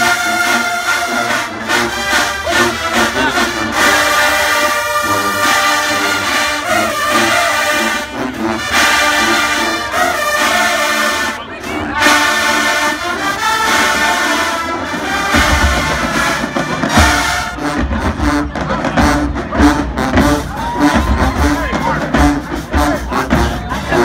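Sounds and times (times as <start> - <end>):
brass section playing: 0.0 - 24.0.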